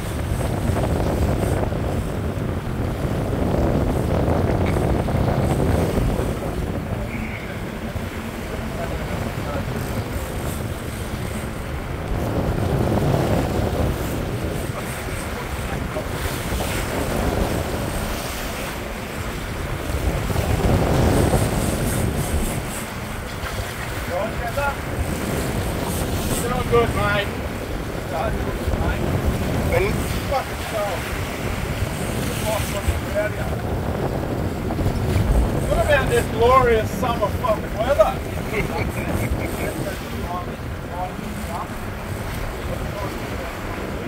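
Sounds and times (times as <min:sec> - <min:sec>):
boat engine running: 0:00.0 - 0:44.0
propeller wash churning: 0:00.0 - 0:44.0
wind buffeting microphone: 0:00.0 - 0:44.0.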